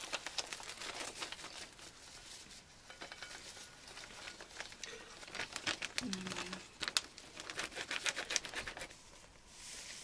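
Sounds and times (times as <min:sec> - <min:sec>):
packets crinkling and rustling: 0:00.0 - 0:02.6, 0:03.2 - 0:09.4.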